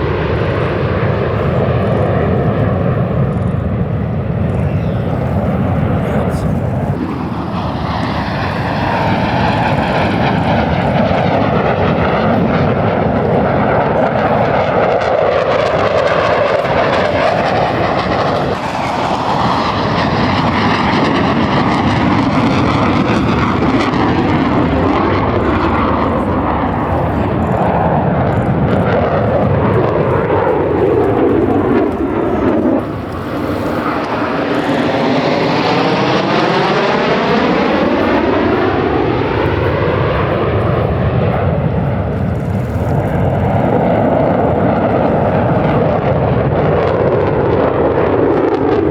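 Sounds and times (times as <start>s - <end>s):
jets flying past: 0.0s - 48.9s.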